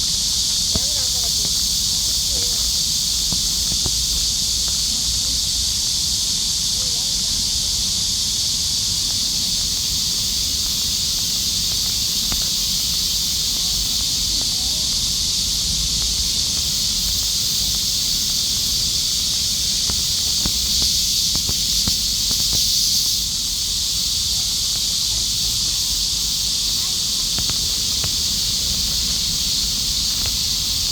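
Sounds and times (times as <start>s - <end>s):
cicada chorus buzzing: 0.0s - 30.9s.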